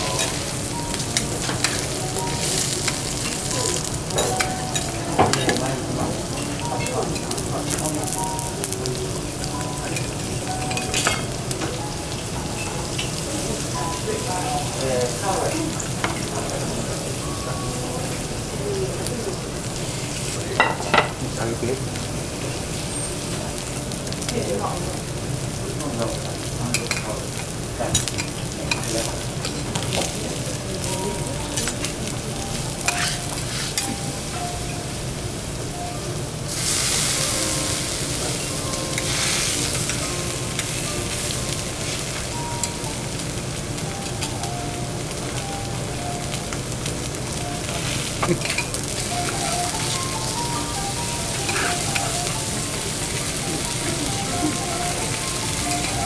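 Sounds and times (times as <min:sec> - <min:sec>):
food sizzling on griddle: 0:00.0 - 0:56.0.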